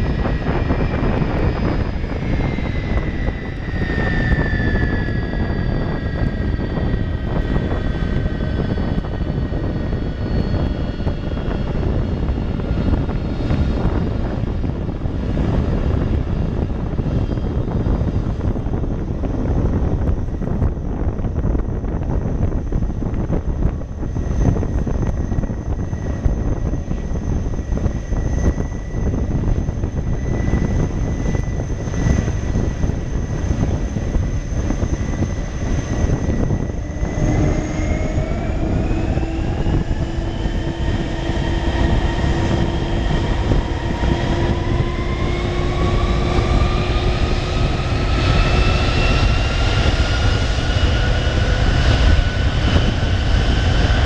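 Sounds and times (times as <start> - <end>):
deep rumble: 0.0 - 54.0
jet engines whining: 0.0 - 54.0.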